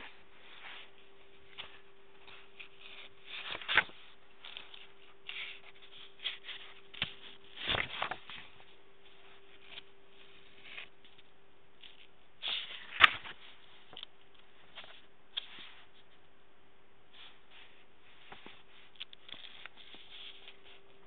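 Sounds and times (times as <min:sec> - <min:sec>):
paper pages turning: 0:00.0 - 0:16.1, 0:17.1 - 0:21.0
faint steady hum: 0:00.0 - 0:21.0.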